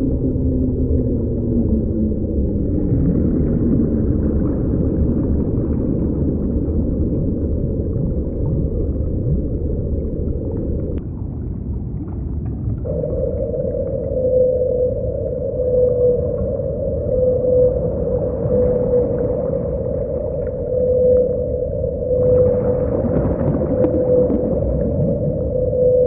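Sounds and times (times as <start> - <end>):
low moaning gliding calls: 0.0 - 11.0, 12.8 - 26.0
steady hum: 0.0 - 11.8, 12.7 - 26.0
deep underwater rumble: 0.0 - 26.0.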